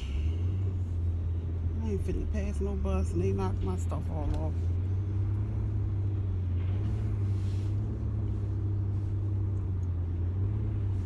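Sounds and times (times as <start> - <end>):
car engine and tyre drone: 0.0 - 11.0.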